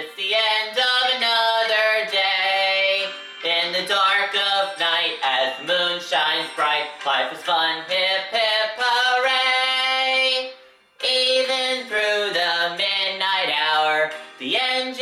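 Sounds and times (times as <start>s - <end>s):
person singing over music: 0.0s - 15.0s.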